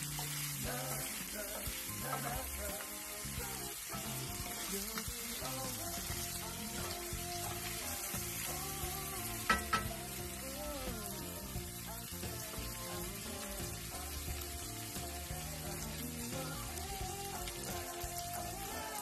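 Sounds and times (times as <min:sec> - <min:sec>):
pork sizzling in a skillet: 0:00.0 - 0:19.0.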